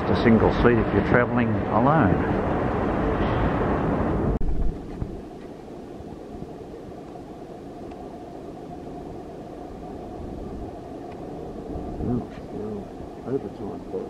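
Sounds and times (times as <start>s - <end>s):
train equipment humming: 0.0s - 14.0s.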